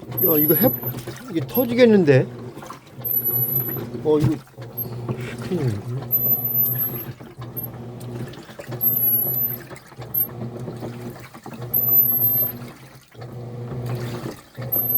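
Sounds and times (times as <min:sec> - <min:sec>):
washing machine motor hum: 0:00.0 - 0:14.9
water sloshing in washing machine: 0:00.0 - 0:14.9.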